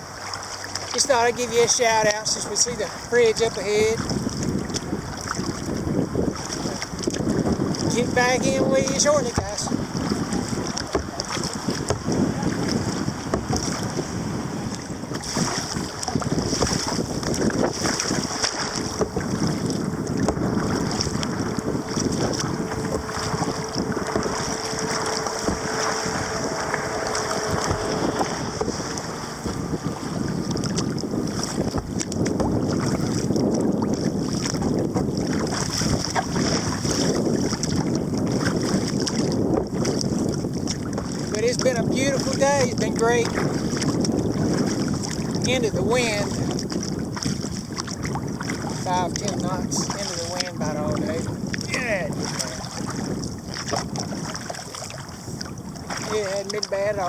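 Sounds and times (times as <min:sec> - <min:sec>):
water splashing around hull: 0:00.0 - 0:57.0
wind buffeting microphone: 0:00.0 - 0:57.0.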